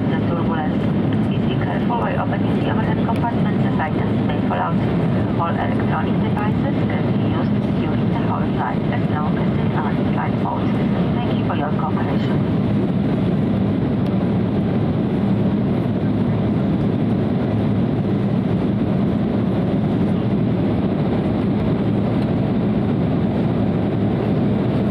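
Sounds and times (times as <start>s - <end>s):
jet engine cabin hum: 0.0s - 24.9s.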